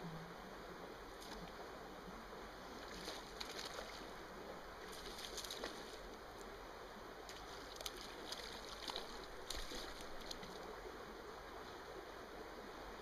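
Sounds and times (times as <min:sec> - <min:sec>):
stream flowing: 0:00.0 - 0:13.0.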